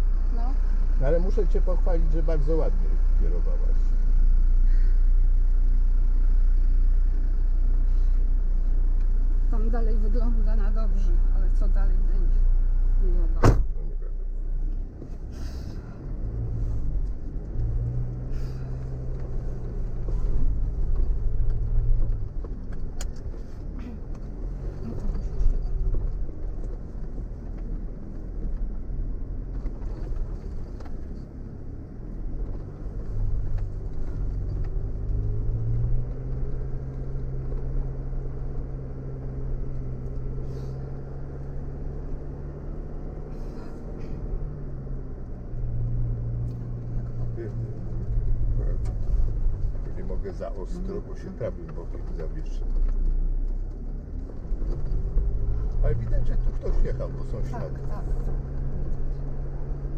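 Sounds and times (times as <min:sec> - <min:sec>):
car engine at low revs: 0:00.0 - 0:59.9.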